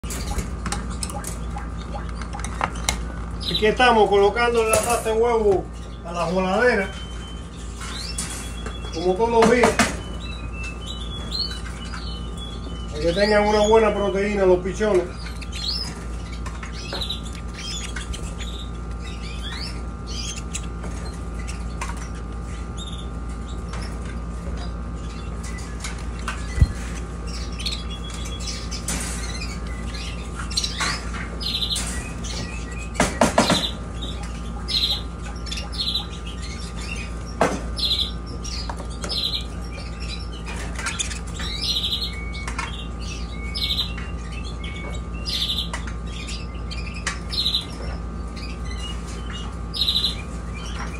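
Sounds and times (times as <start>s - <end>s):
canaries chirping: 0.0s - 50.9s
steady low hum: 0.0s - 50.9s.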